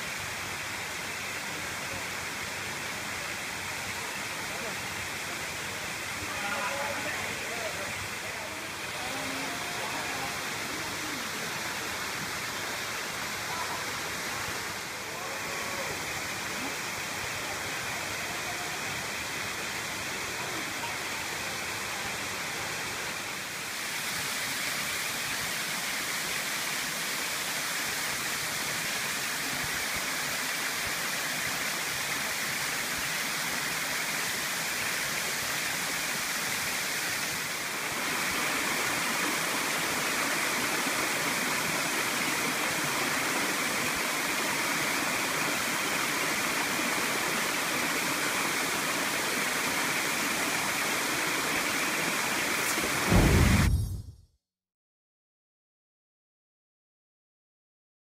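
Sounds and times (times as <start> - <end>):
water cascading over rocks: 0.0 - 53.8.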